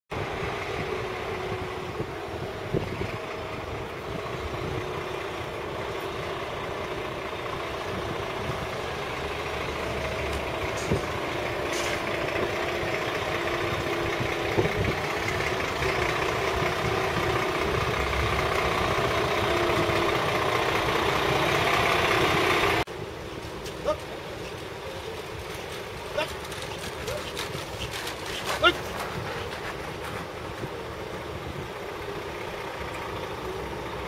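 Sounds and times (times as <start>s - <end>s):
lorry diesel engine: 0.1s - 34.0s.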